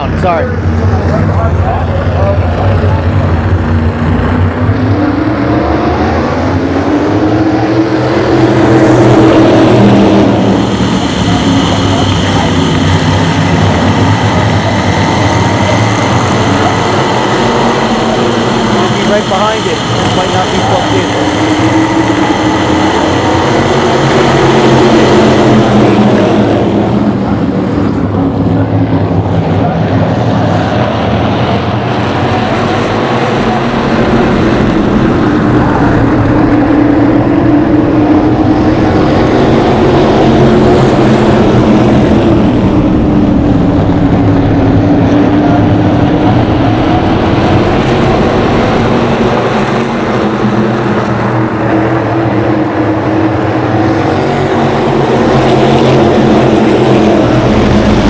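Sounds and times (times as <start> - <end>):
race car engines at speed: 0.0 - 58.0.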